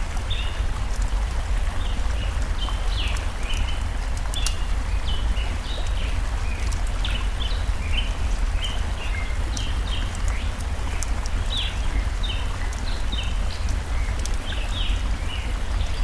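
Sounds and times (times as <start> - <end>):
wood fire crackling: 0.0 - 14.9
stream rushing: 0.0 - 16.0.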